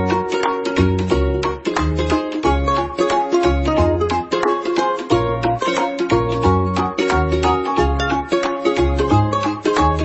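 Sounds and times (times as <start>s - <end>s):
music with struck notes and bass: 0.0s - 10.0s.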